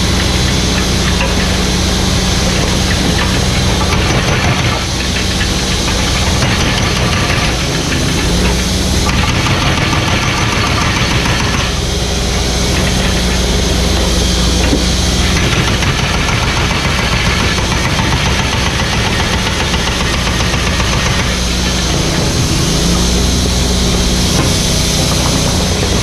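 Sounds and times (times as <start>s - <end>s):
diesel engine running: 0.0s - 26.0s
hissing noise: 0.0s - 26.0s.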